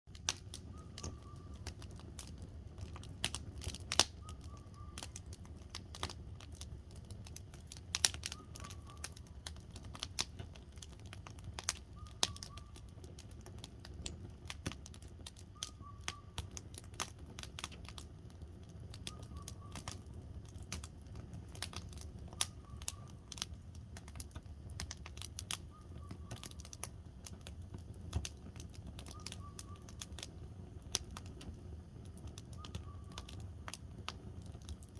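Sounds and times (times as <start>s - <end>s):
campfire crackling and popping: 0.1s - 34.9s
low rumble of flames: 0.1s - 34.9s.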